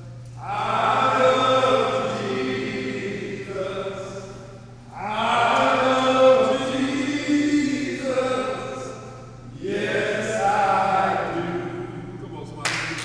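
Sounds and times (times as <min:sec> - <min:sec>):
group of men chanting: 0:00.4 - 0:12.1.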